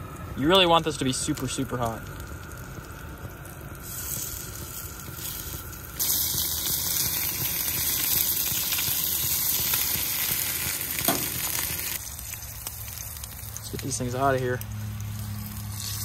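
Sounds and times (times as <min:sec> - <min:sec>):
fish searing in hot oil: 0:00.0 - 0:16.0.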